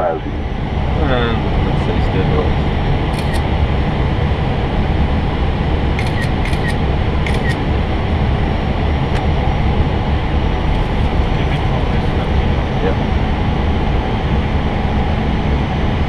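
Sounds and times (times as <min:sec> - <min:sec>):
aircraft engine rumble: 0:00.0 - 0:16.0
airflow rushing in cockpit: 0:00.0 - 0:16.0.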